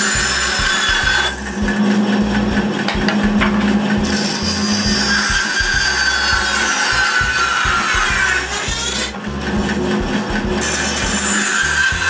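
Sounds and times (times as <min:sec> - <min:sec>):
band saw cutting wood: 0:00.0 - 0:12.0.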